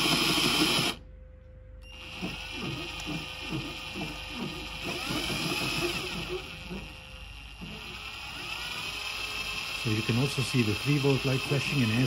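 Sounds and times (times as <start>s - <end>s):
cordless drill motor whine: 0.0s - 1.0s, 1.8s - 12.0s.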